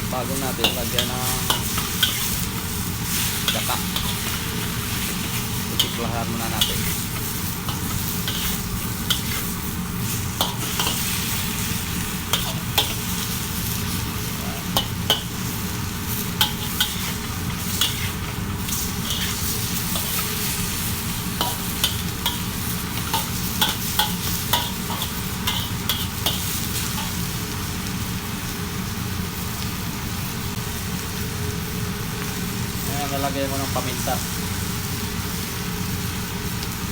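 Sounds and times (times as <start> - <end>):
chicken sizzling in a pan: 0.0 - 36.9.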